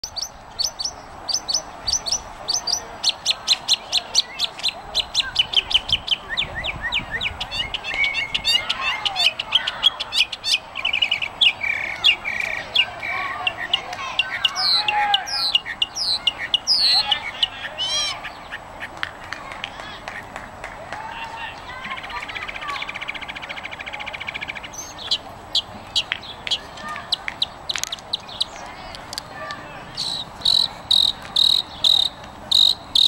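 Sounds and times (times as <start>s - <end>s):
songbird singing: 0.0s - 20.4s, 21.3s - 33.0s.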